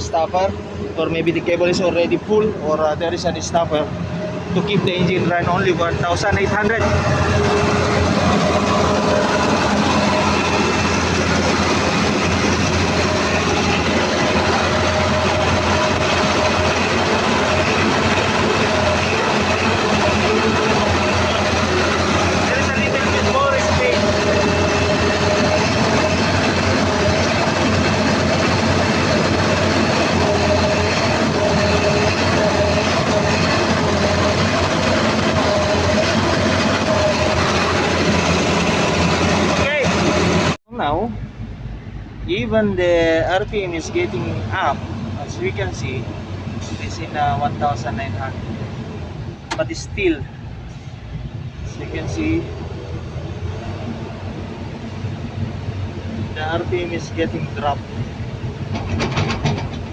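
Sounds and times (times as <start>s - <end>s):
excavator diesel engine droning: 0.0s - 59.9s
steady whine: 0.0s - 59.9s.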